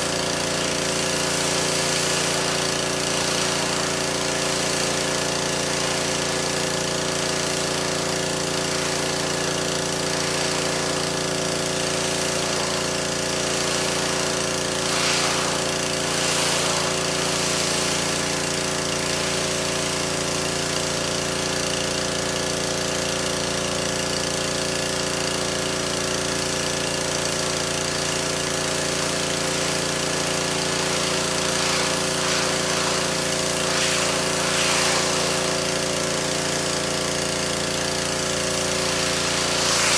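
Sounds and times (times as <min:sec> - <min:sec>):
water spray hiss: 0:00.0 - 0:21.0, 0:27.1 - 0:39.9
pressure washer motor drone: 0:00.0 - 0:39.9.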